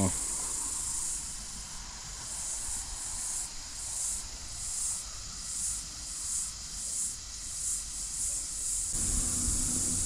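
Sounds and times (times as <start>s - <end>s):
insect chorus pulsing drone: 0.0s - 10.0s.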